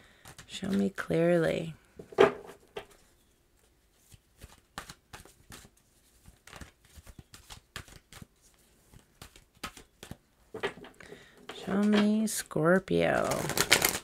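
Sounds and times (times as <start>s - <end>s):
cards being shuffled by hand: 0.0s - 1.2s, 2.9s - 14.0s.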